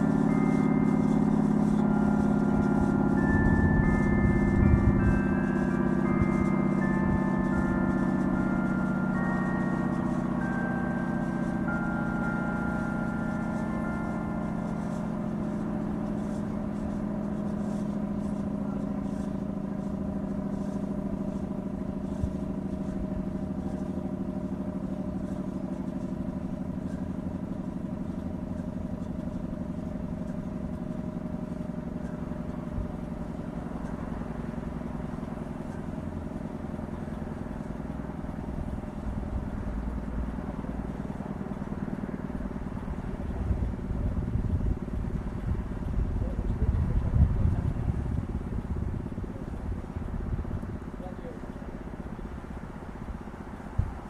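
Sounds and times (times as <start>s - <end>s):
fire siren winding down: 0.0s - 54.0s.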